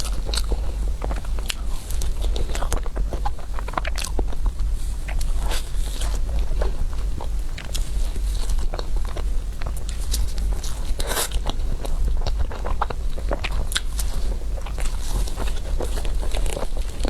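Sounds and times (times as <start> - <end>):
biting and chewing dessert: 0.0 - 17.0
steady low hum: 0.0 - 17.0.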